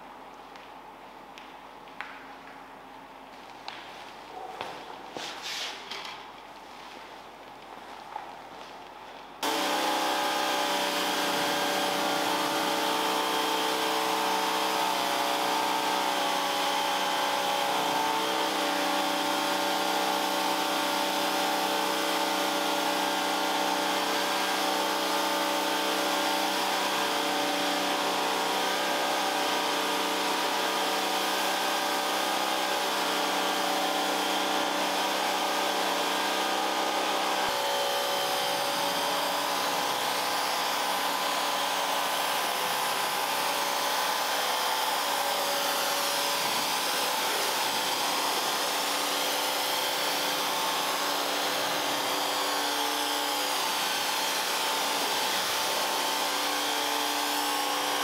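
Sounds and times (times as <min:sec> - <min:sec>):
vacuum cleaner motor running: 0:09.4 - 0:58.0.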